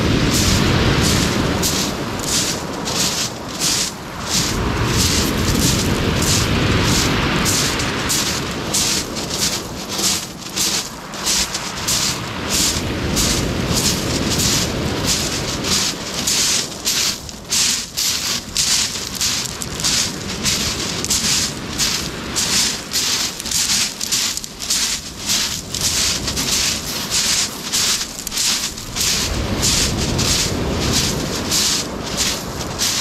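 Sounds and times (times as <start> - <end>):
footsteps on pebbles: 0.0 - 33.0.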